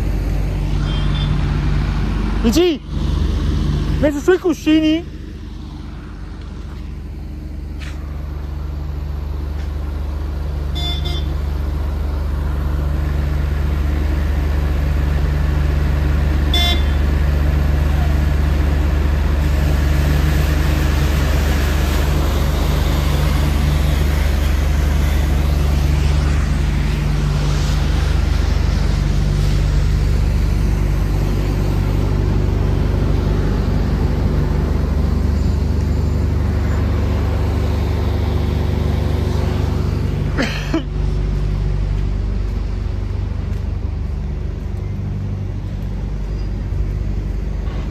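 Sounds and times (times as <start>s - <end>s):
lorry engine droning: 0.0s - 47.9s.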